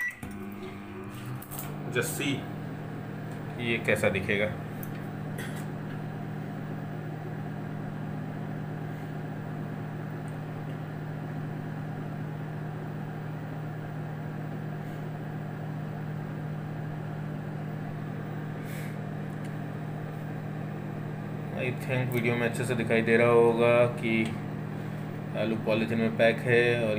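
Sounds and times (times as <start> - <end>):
microwave oven humming: 0.0 - 26.9.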